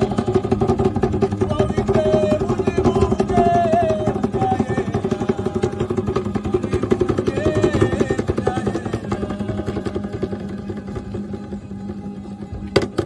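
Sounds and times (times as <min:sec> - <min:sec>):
fast drum beat: 0:00.0 - 0:10.5.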